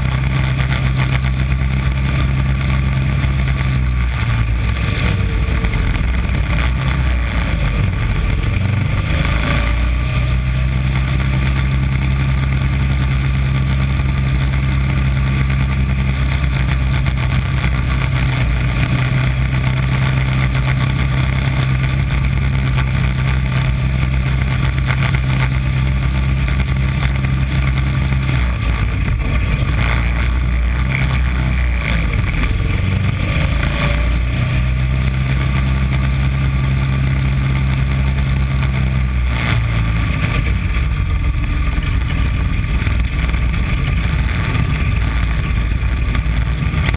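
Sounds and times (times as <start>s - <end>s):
race car engine running hard: 0.0s - 46.9s
wind and road noise: 0.0s - 46.9s.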